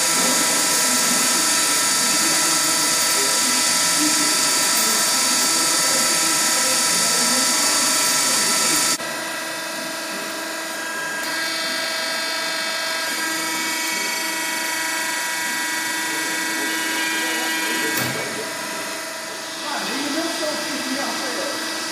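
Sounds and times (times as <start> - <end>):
hydraulic press motor whine: 0.0 - 21.9.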